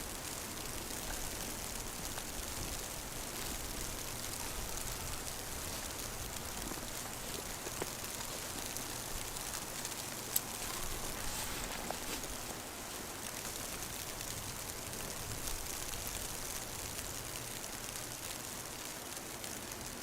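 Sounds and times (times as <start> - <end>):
snowstorm hiss: 0.0 - 20.0.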